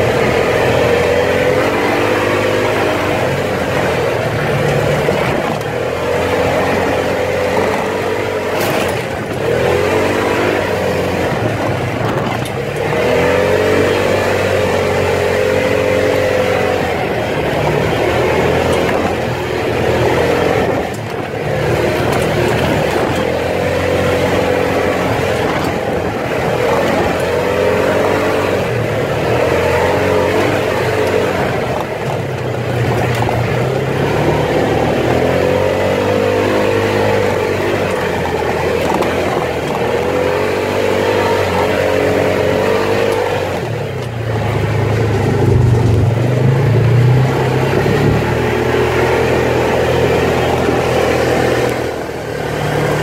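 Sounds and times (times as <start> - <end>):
off-road vehicle engine revving: 0.0 - 53.0
tyre and wind noise: 0.0 - 53.0.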